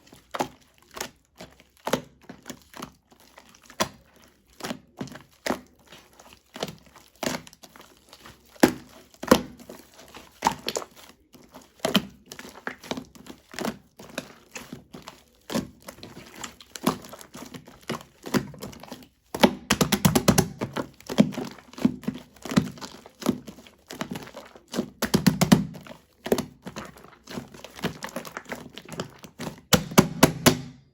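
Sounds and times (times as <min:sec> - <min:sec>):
shaving foam squishing and crackling: 0:00.0 - 0:30.9.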